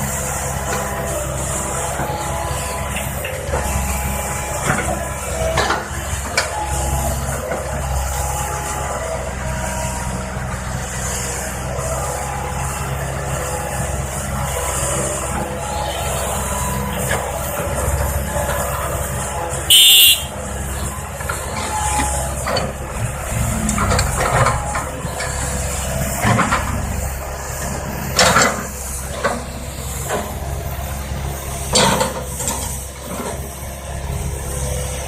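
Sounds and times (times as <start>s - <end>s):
heavy diesel engines running: 0.0s - 35.0s.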